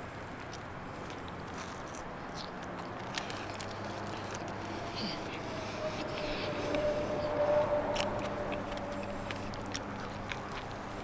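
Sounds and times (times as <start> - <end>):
low background hum: 0.0 - 11.0
person biting and chewing: 0.3 - 6.9, 7.6 - 11.0.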